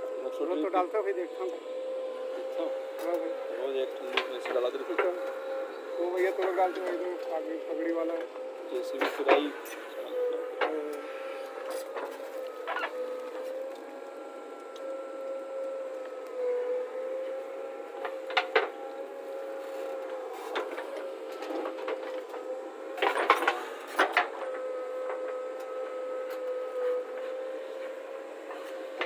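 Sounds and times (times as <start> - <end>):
machine whining: 0.0 - 29.0.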